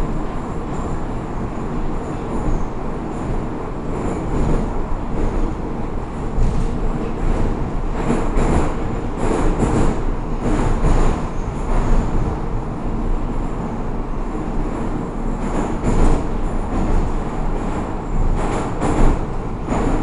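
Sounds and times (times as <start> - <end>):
rail clacks: 0.0 - 20.0
wheels rumbling on rail: 0.0 - 20.0.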